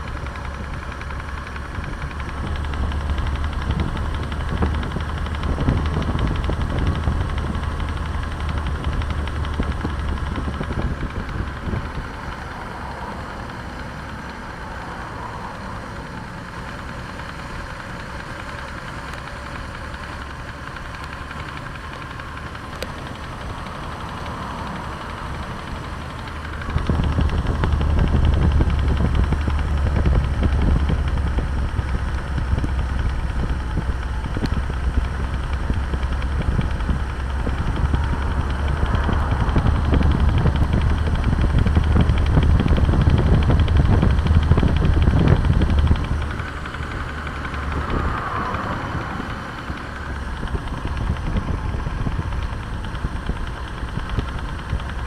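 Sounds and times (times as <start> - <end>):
car engine running: 0.0 - 55.0
engine knocking: 0.0 - 55.0.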